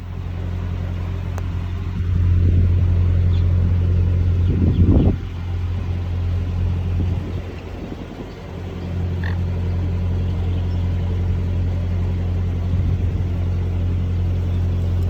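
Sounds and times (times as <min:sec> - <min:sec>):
engine droning: 0:00.0 - 0:15.0
loud rumble: 0:00.0 - 0:15.0.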